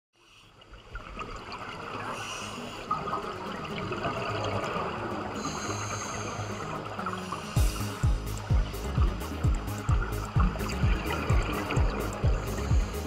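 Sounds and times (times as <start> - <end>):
underwater bubbling of exhaled air: 0.7 - 13.0.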